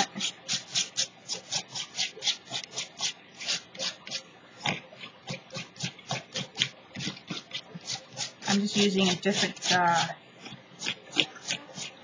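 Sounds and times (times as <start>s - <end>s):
paintbrush scratchy rubbing strokes: 0.0s - 12.0s.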